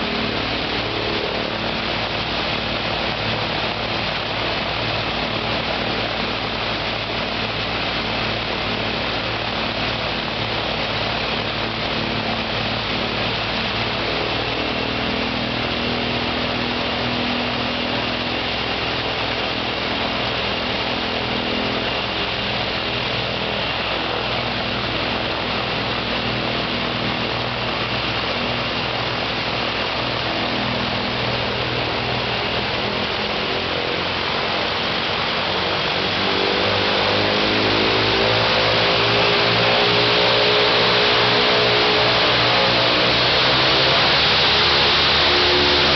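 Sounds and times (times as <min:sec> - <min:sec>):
radial piston engine running: 0:00.0 - 0:45.9.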